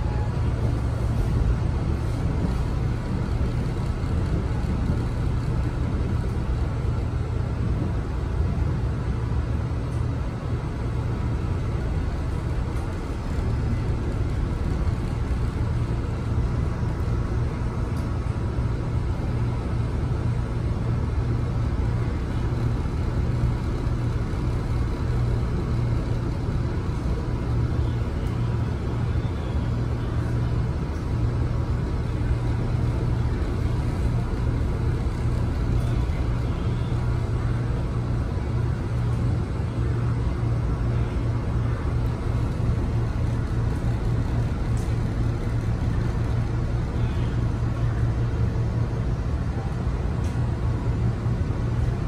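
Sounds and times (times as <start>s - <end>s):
railcar rumbling along track: 0.0s - 52.0s.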